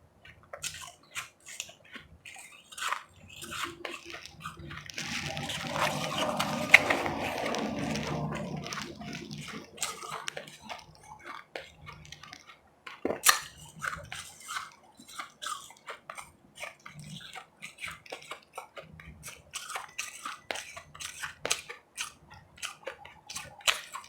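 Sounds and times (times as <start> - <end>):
chewing ice crunches: 0.1 - 24.0.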